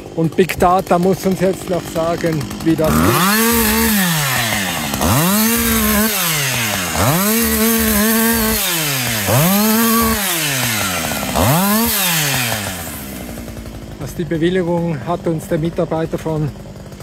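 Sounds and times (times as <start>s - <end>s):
chainsaw revving and cutting wood: 0.0s - 17.0s.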